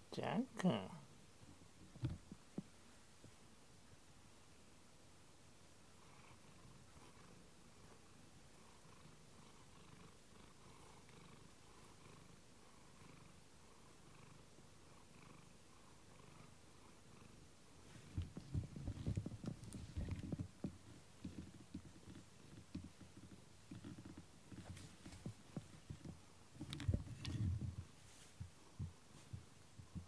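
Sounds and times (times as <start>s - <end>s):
cat purring: 5.7s - 30.0s.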